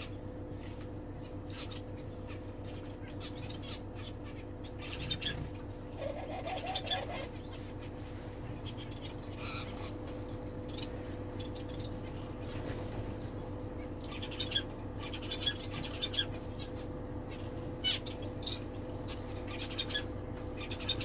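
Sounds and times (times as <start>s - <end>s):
finches chirping: 0.0s - 21.0s
steady low hum: 0.0s - 21.0s.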